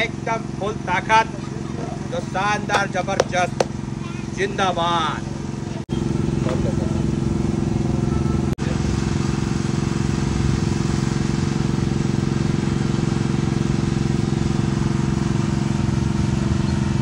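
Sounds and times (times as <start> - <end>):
motor humming with flutter: 0.0 - 17.0.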